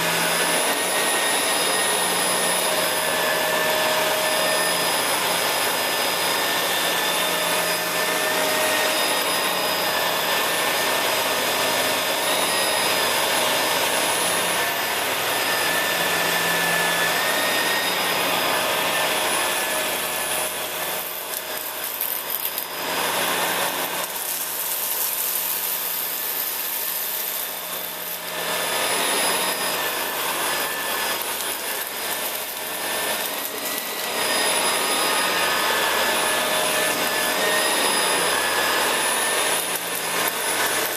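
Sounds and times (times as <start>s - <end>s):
vacuum cleaner running over carpet: 0.0s - 40.9s.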